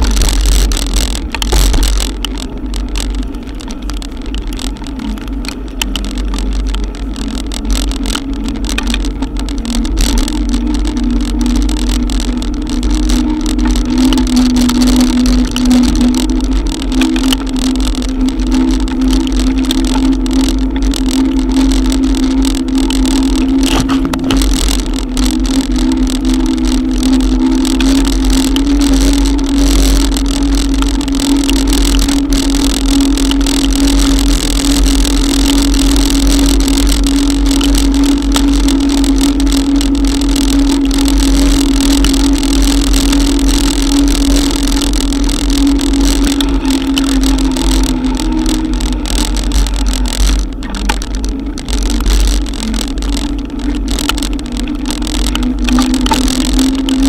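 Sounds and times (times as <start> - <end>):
electric bike motor humming: 0.0 - 57.0
raindrops ticking on camera: 0.0 - 57.0
wind rumble on microphone: 0.0 - 57.0.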